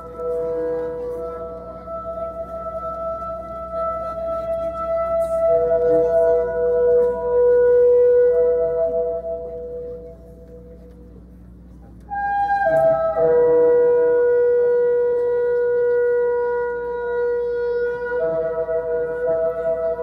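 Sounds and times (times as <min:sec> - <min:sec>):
held wind instrument chords: 0:00.0 - 0:20.0.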